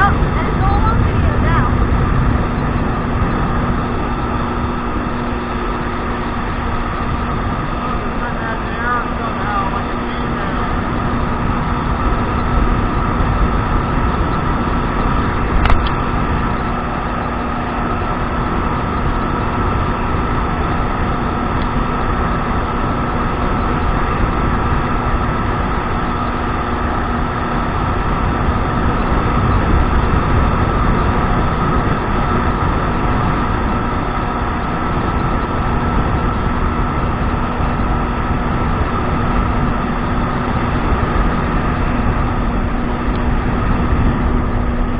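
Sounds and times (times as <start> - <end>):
jet ski engine drone: 0.0 - 44.9
water rushing: 0.0 - 44.9
wind: 0.0 - 44.9.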